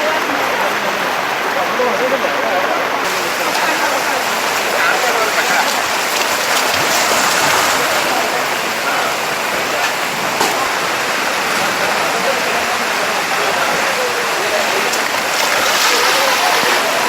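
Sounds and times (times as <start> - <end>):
faint voices: 0.0 - 17.0
fast-flowing water rushing: 0.0 - 17.0.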